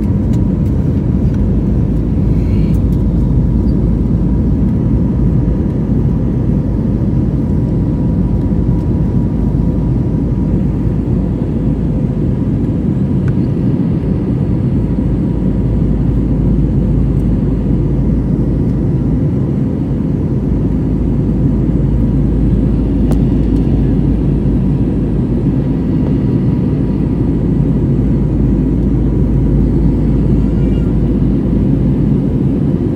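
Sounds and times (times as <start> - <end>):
aircraft cabin engine noise: 0.0 - 32.9
faint high hum: 0.0 - 32.9.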